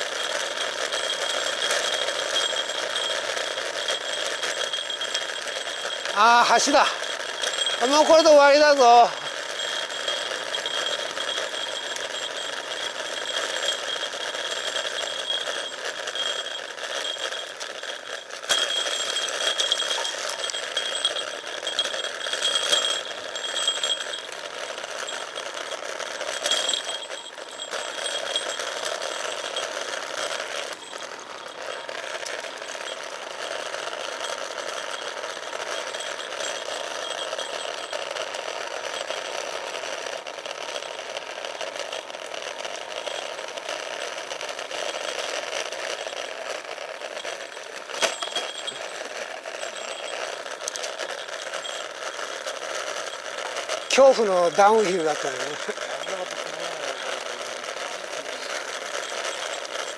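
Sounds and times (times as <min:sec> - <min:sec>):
bicycle brakes squealing: 0:00.0 - 0:59.9.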